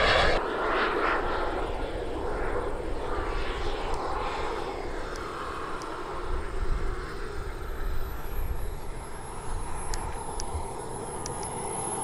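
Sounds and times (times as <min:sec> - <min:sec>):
jet turbines rushing whine: 0:00.0 - 0:12.0.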